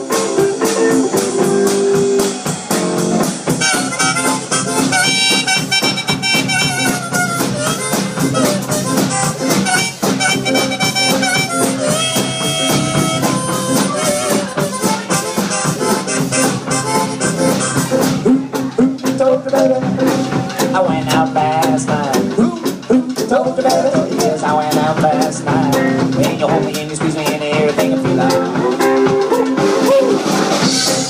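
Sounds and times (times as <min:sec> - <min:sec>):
drum kit groove: 0:00.0 - 0:31.0
upright bass: 0:00.0 - 0:31.0.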